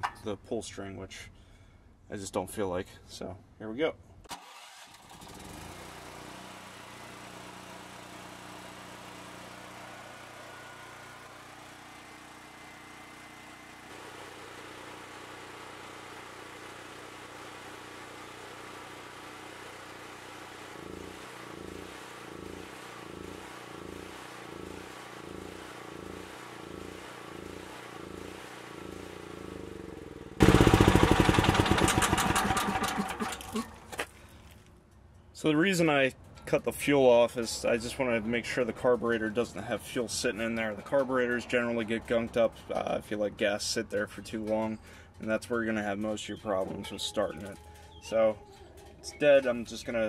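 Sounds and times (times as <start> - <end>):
generator engine starting and running: 4.2 - 50.0.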